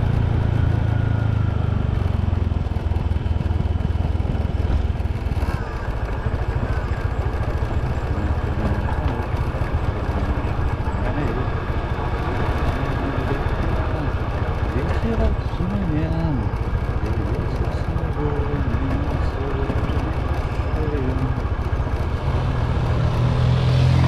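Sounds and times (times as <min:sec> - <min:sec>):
motorbike rumbling: 0:00.0 - 0:24.0.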